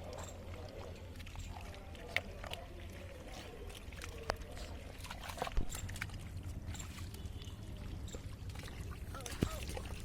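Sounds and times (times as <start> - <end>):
muddy water sloshing: 0.0 - 10.0.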